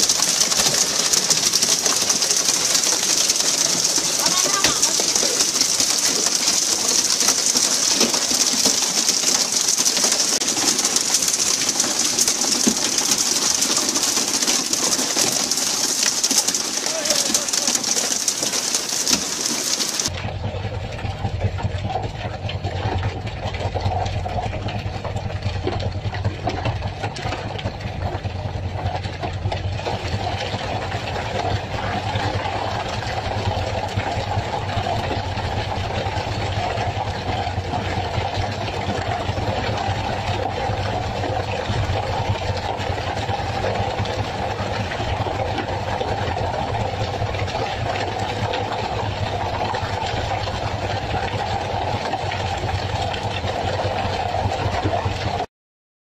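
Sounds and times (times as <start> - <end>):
engine humming steadily: 0.0 - 55.5.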